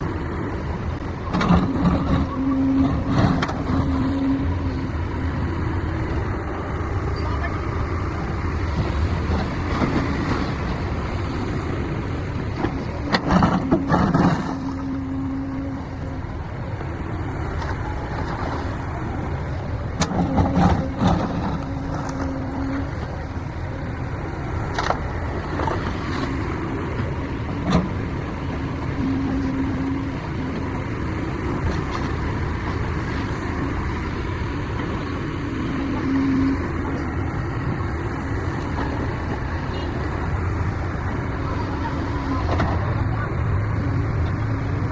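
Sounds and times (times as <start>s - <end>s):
heavy machine engine running: 0.0s - 44.9s.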